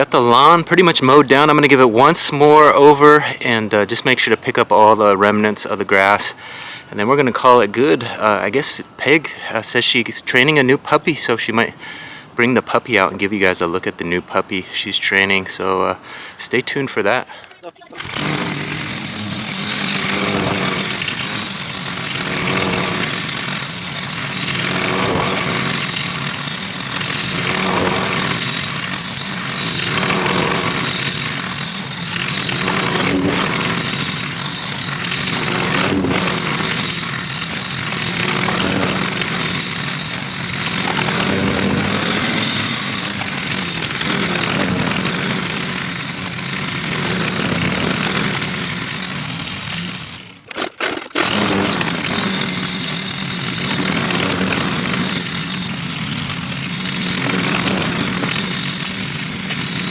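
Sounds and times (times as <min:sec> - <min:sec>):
lawn mower engine running: 0:00.0 - 0:11.0, 0:11.7 - 0:59.9.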